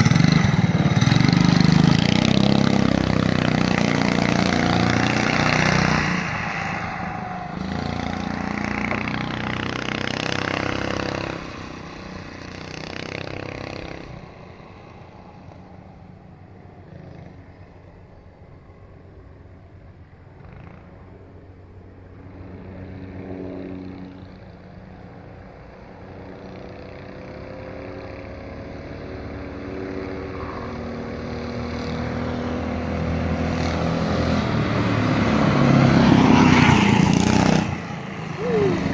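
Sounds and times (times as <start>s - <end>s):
go-kart engine running: 0.0s - 18.3s, 19.6s - 38.9s.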